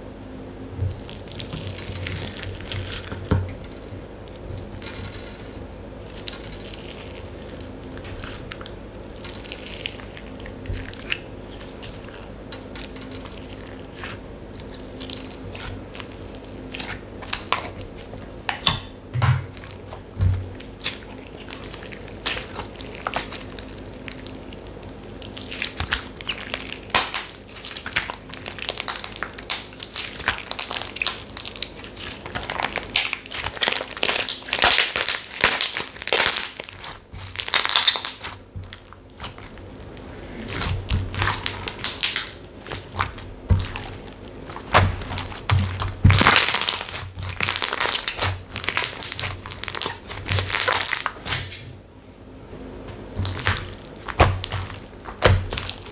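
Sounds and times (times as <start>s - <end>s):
slime crackling and crunching: 0.8s - 18.9s, 19.5s - 51.7s, 53.1s - 55.9s.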